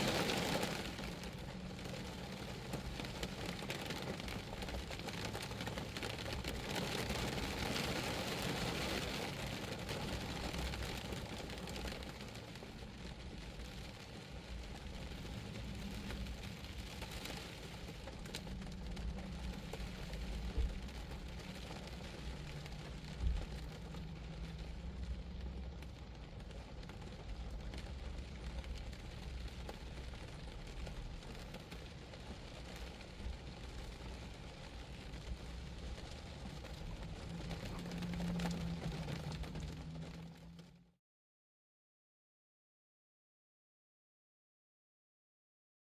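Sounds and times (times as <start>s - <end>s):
rain on car body: 0.0s - 40.9s.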